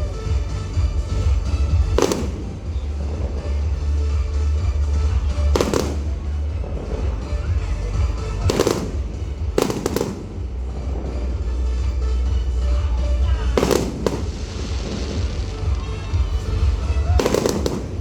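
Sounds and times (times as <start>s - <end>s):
fireworks bursting in sharp bangs: 0.0s - 12.2s, 13.3s - 18.0s
loud music with heavy bass: 0.0s - 18.0s.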